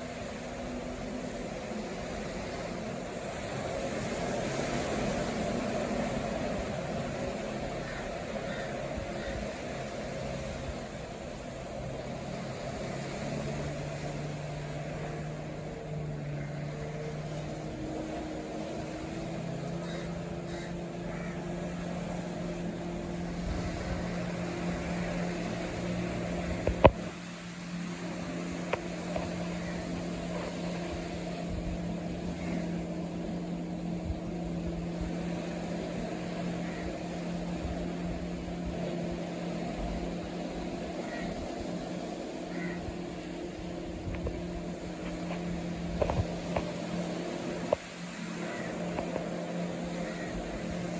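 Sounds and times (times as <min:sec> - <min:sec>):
engine humming: 0:00.0 - 0:50.9.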